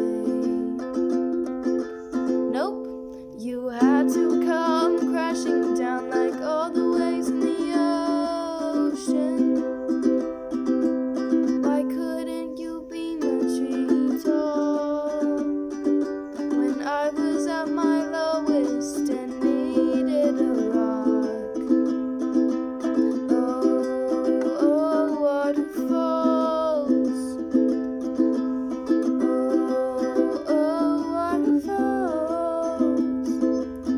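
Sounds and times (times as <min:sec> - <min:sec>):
person singing: 0:00.0 - 0:33.9
strummed ukulele: 0:00.0 - 0:33.9.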